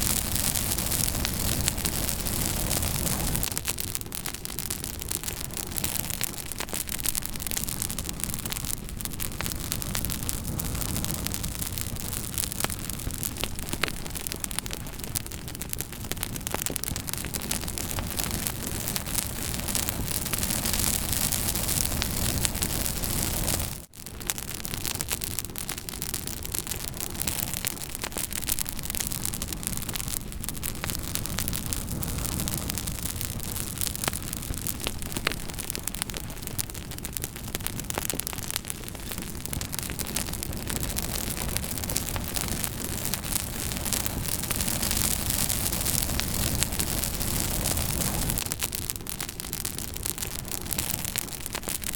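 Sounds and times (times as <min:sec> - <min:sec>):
campfire crackling: 0:00.0 - 0:51.9.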